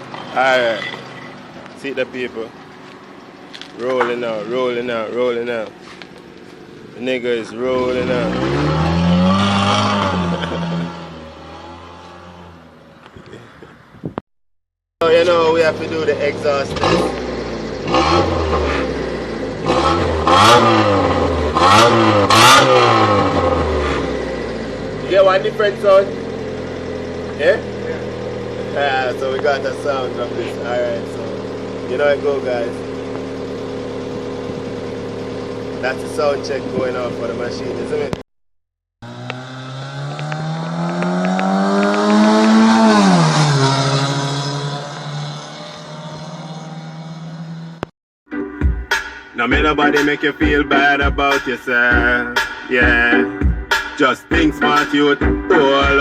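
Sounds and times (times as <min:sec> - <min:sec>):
car engine revving: 0:00.0 - 0:13.4, 0:15.0 - 0:38.2, 0:39.0 - 0:47.9.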